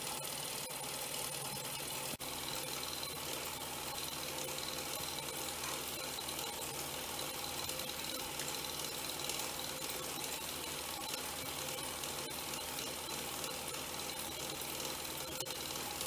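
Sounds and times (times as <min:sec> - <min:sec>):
toy steam engine clatter: 0:00.0 - 0:16.0.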